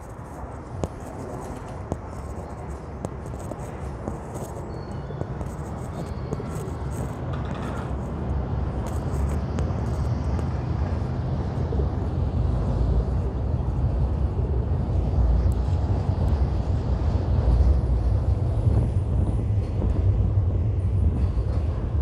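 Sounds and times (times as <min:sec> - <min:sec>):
city background rumble: 0:00.0 - 0:22.0.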